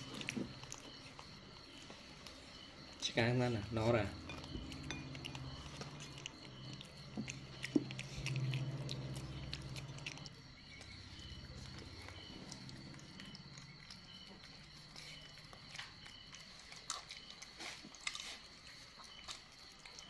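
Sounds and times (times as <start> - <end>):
monkey chewing food: 0.0 - 3.1, 3.8 - 20.0
low steady hum: 0.0 - 17.5.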